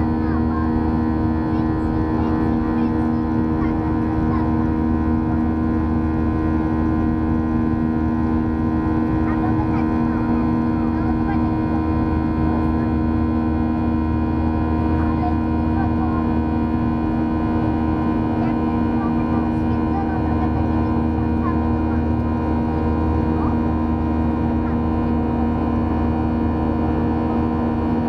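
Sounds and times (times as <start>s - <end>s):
jet engine drone: 0.0s - 28.0s.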